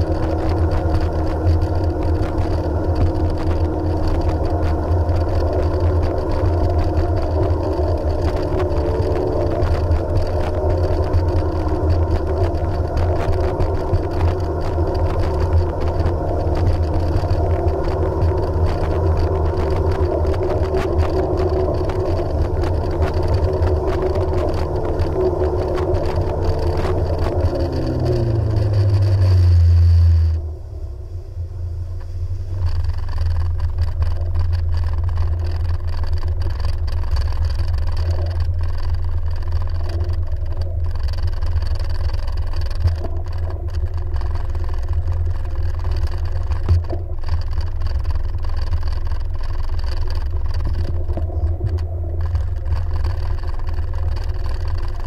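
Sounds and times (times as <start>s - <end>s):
jet ski engine running: 0.0s - 55.0s
steady low rumble: 0.0s - 55.0s.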